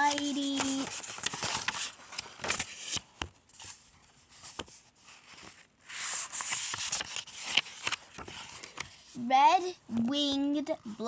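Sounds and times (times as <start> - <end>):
paper pages rustling: 0.0 - 9.2.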